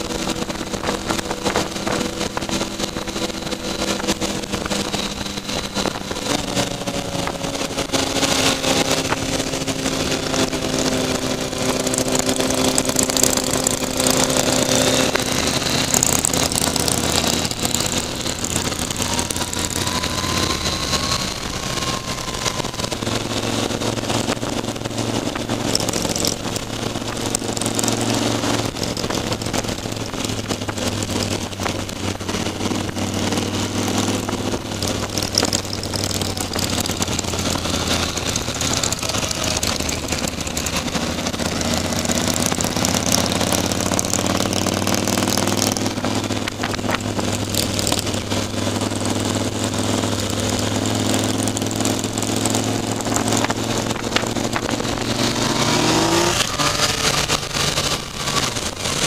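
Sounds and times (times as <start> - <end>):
wind rush: 0.0 - 51.0, 51.6 - 59.0
motorcycle engine running: 0.0 - 59.0.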